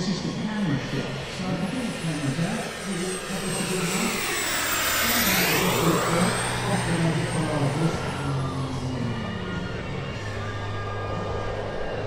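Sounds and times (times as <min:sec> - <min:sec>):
model plane flying past: 0:00.0 - 0:12.0.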